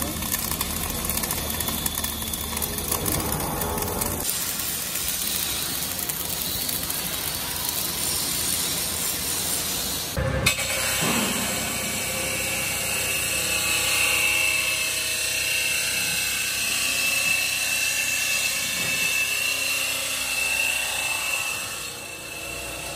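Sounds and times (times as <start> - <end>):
arc welding crackling hiss: 0.0 - 22.9.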